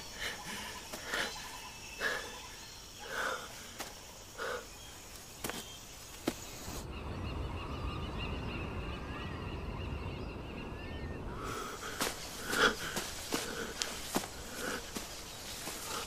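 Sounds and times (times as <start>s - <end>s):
distant bird calls: 0.0s - 16.0s.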